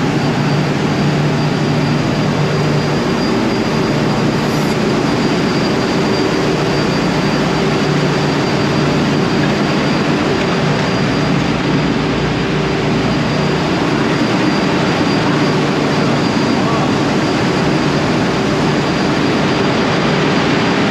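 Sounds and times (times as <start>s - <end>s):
engine room machinery drone: 0.0s - 20.9s
faint high whine: 0.0s - 20.9s.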